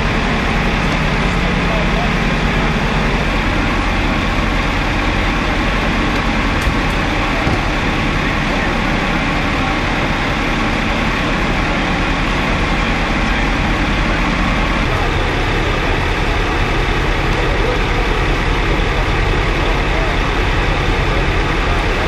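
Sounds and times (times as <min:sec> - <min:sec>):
heavy diesel engine idling: 0:00.0 - 0:22.0.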